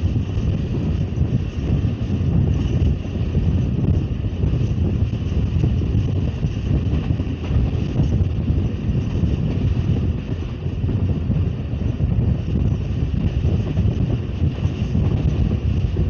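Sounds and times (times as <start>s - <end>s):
train running rumble: 0.0s - 16.0s
wind buffeting microphone: 0.0s - 16.0s.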